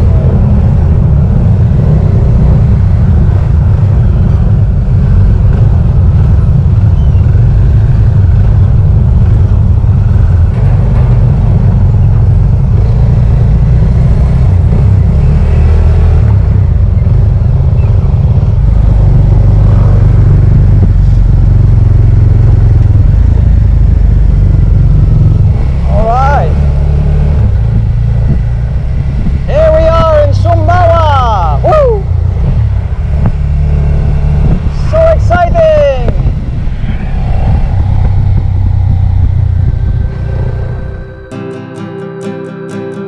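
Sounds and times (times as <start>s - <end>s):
wind rumble on microphone: 0.0s - 41.3s
other motorbikes: 0.0s - 41.6s
motorcycle engine running: 0.0s - 42.0s.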